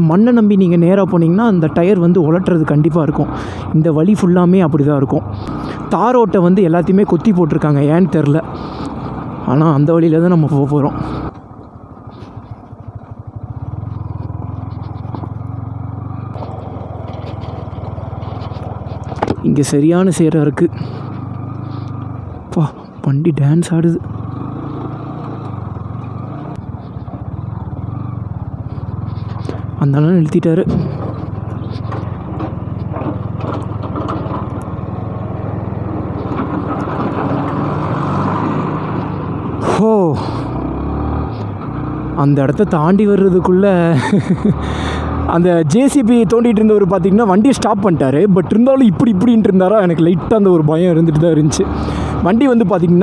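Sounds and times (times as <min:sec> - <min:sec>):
motorcycle engine running at low revs: 0:04.2 - 0:53.0.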